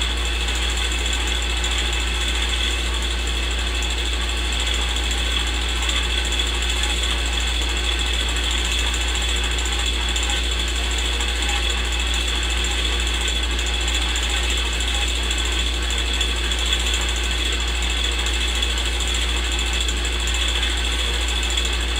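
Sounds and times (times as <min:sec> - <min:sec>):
film projector clattering: 0:00.0 - 0:21.9.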